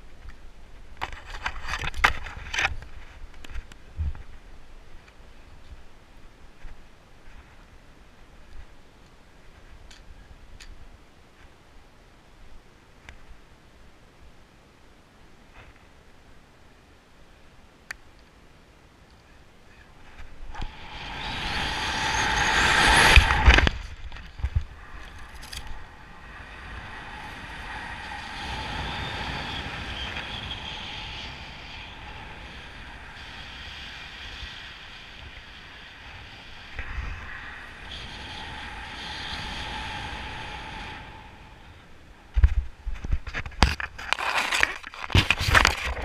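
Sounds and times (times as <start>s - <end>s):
wind rushing over camera: 0.0s - 11.8s, 19.8s - 46.0s.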